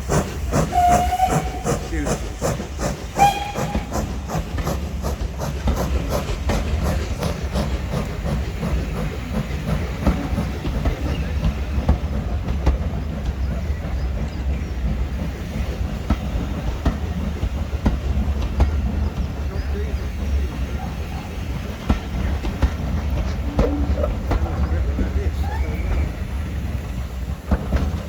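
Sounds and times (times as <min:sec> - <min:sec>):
steam locomotive exhaust beats: 0:00.0 - 0:28.0
train rumble: 0:00.0 - 0:28.0
wheels clicking on rails: 0:00.0 - 0:28.0.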